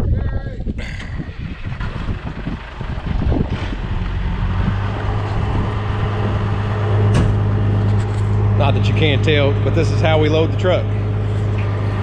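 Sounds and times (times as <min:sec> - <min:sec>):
truck engine running: 0:00.9 - 0:12.0.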